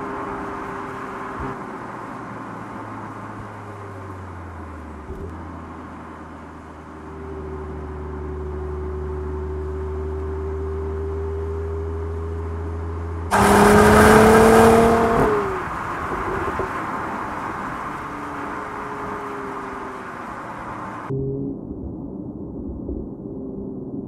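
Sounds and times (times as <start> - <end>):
car engine accelerating: 0.0 - 21.1.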